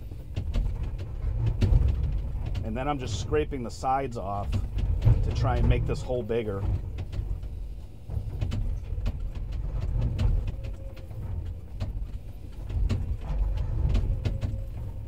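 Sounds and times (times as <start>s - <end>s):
excavator engine rumbling: 0.0s - 15.0s.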